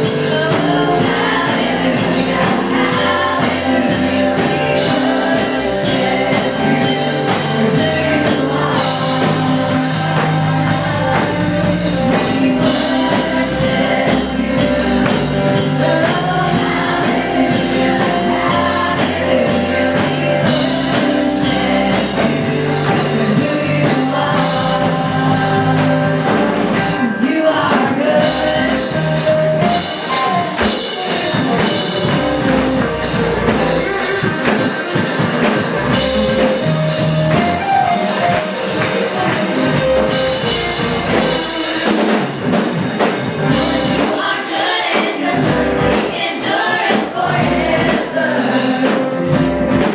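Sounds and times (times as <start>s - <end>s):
live band with singing: 0.0s - 49.9s.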